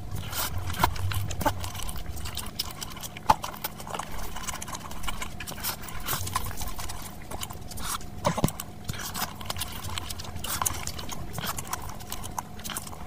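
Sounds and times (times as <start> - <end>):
wet chewing and smacking: 0.0 - 13.0.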